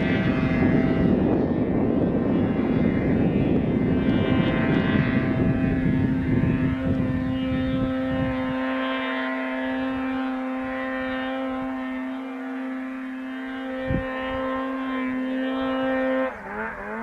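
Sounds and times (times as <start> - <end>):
snowmobile engine running hard: 0.0 - 17.0.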